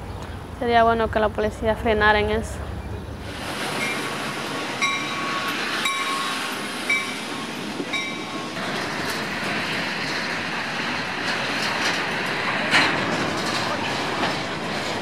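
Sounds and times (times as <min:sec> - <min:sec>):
freight train wheels rattling: 0:02.7 - 0:15.0.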